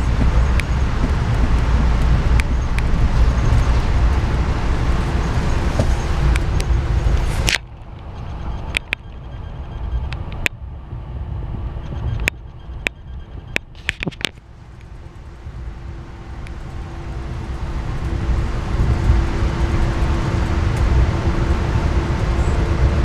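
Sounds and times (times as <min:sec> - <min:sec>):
train running rumble: 0:00.0 - 0:23.0.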